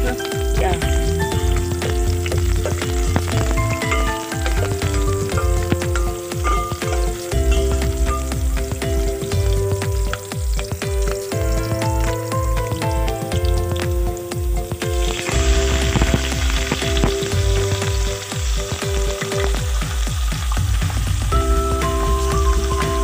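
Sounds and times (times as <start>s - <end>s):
background music with pulsing bass: 0.0s - 23.0s
food sizzling in hot oil: 0.0s - 23.0s.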